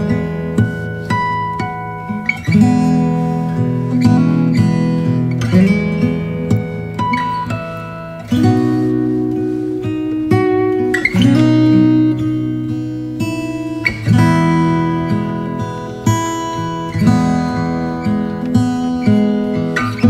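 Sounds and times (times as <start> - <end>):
acoustic guitar chords: 0.0 - 20.0.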